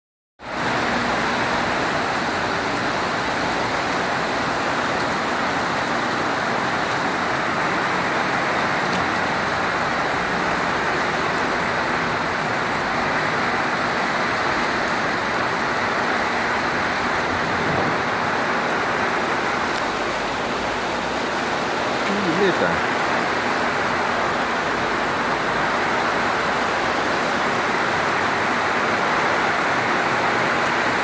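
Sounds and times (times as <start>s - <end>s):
heavy rain hissing: 0.5s - 31.0s.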